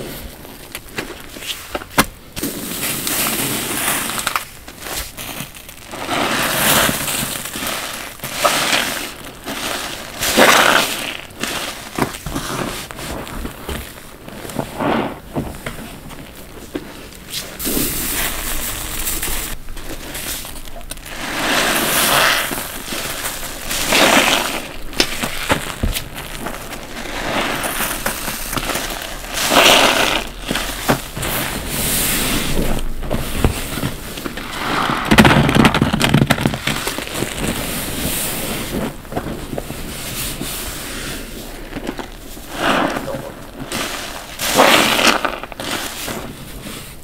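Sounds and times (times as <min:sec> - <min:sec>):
sponges sloshing in soapy water: 0:02.5 - 0:47.0.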